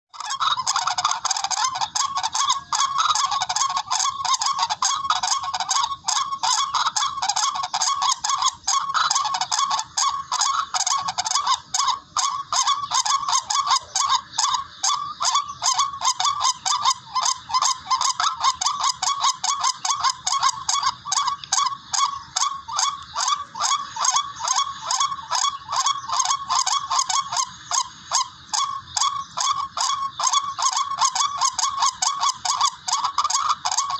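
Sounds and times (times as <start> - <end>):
rail bird harsh honking call: 0.2 - 33.9.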